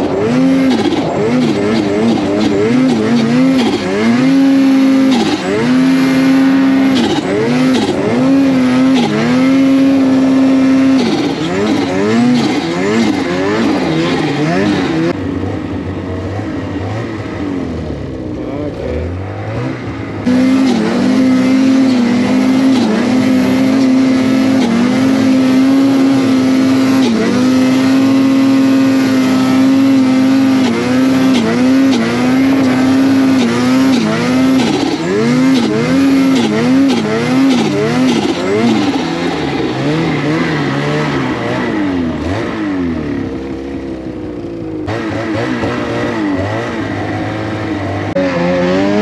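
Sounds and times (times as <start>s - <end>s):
snowmobile engine revving: 0.0s - 49.0s.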